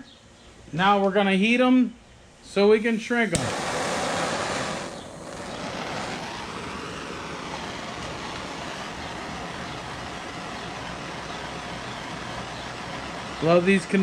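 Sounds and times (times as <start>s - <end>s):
gas torch flame hissing: 2.7s - 14.0s.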